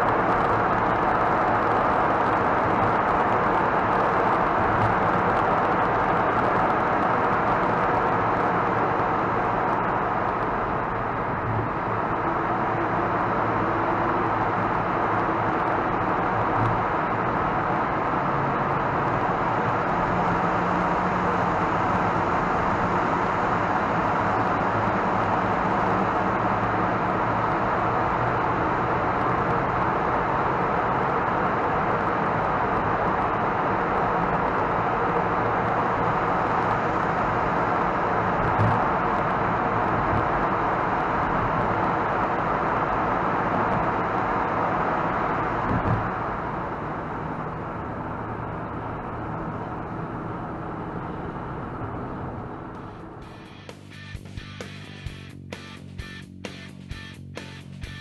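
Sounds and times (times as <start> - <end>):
car road noise in tunnel: 0.0 - 58.0.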